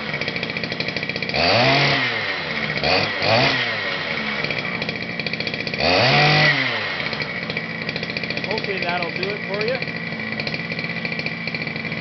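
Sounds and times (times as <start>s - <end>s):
engine revving: 0.0s - 12.0s
small two-stroke engine idling: 0.0s - 12.0s.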